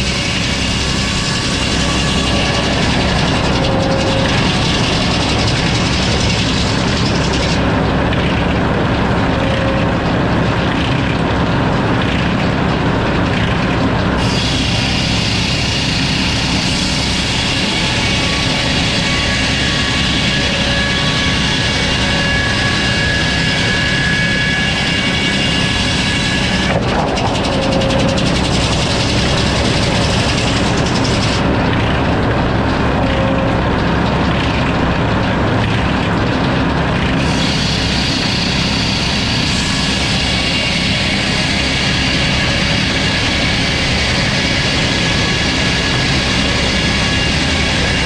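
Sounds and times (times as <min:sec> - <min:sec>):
sawmill saw cutting log: 0:00.0 - 0:48.0.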